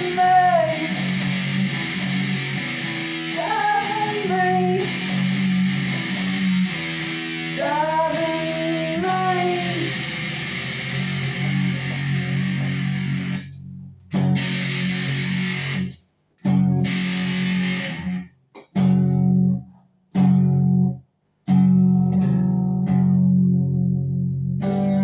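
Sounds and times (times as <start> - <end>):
overdriven electric guitar chords: 0.0 - 25.0.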